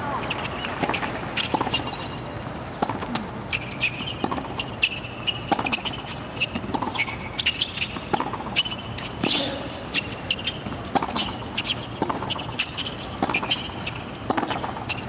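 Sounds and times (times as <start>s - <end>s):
sneakers squeaking on court: 0.2s - 15.0s
racket hitting tennis ball: 0.3s - 2.0s, 2.7s - 15.0s.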